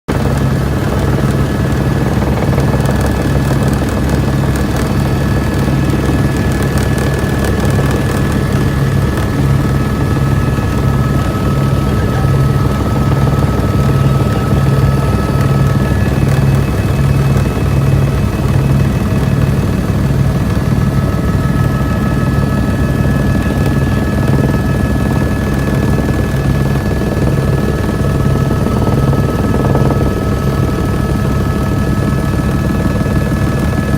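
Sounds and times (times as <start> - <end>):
helicopter high whine: 0.1 - 33.9
helicopter rotor beating: 0.1 - 33.9.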